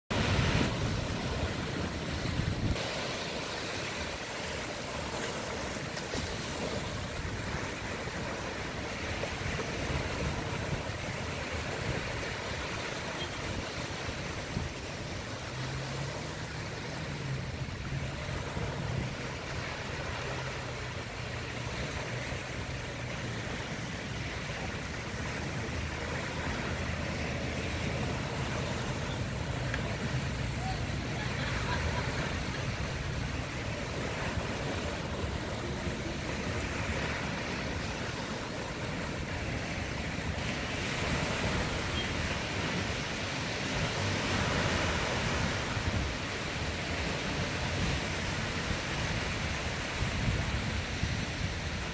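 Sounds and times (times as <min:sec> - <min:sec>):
small waves breaking on sand: 0:00.1 - 0:51.9.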